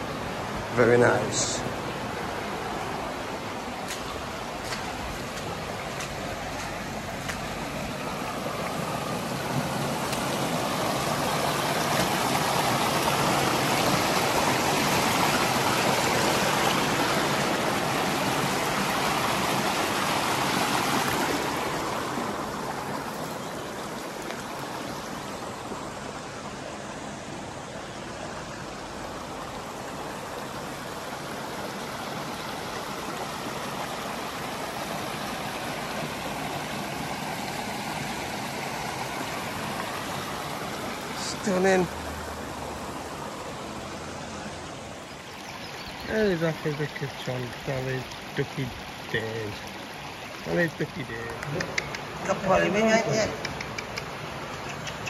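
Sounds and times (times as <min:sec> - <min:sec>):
stream splashing over rocks: 0:00.0 - 0:55.0.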